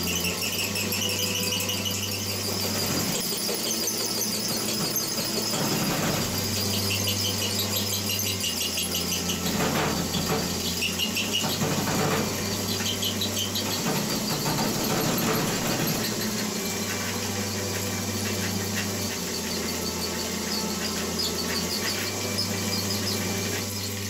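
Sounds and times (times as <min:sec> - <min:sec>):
drill bit squealing in metal: 0:00.0 - 0:24.0
drill press motor hum: 0:00.0 - 0:24.0.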